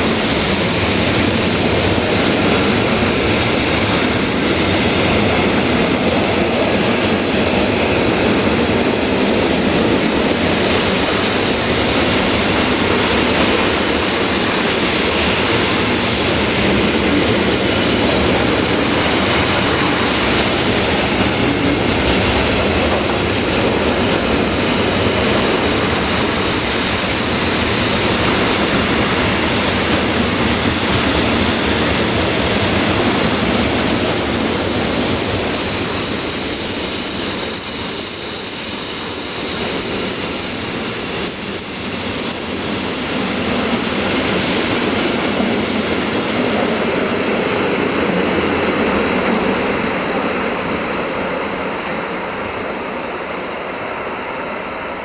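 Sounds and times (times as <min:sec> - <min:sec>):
high wheel squeal: 0:00.0 - 0:55.0.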